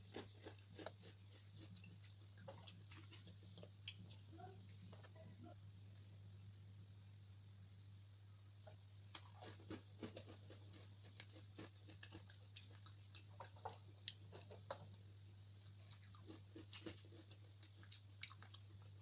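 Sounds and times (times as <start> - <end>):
crunching and chewing cookie: 0.0 - 5.3, 8.4 - 19.0
steady low hum: 0.0 - 19.0.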